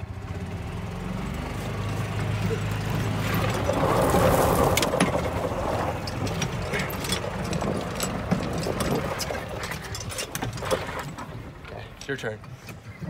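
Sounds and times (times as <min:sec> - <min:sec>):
golf cart engine droning: 0:00.0 - 0:13.0
cart body rattling and clicking: 0:01.9 - 0:13.0.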